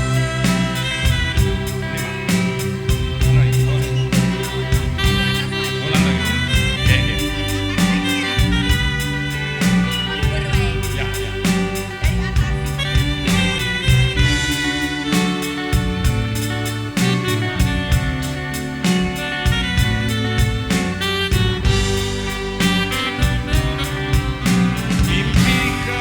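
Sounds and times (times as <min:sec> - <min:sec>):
steady drumbeat: 0:00.0 - 0:26.0.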